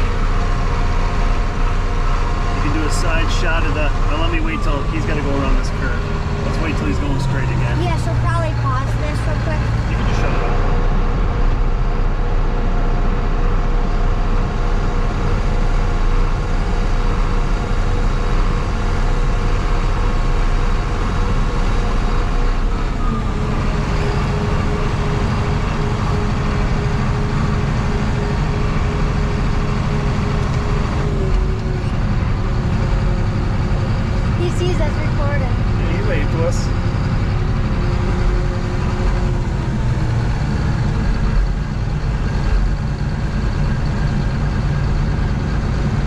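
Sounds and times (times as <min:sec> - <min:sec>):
harvester engine humming under load: 0:00.0 - 0:46.0.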